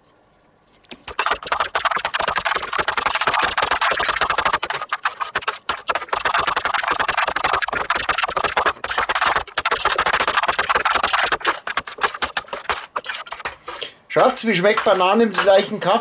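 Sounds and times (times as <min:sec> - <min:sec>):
metal spatulas chopping on steel pan: 0:01.1 - 0:16.0.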